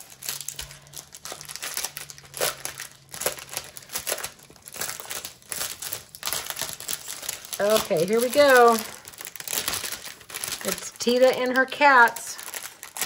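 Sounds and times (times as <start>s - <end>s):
plastic sleeve crinkling: 0.0s - 13.0s.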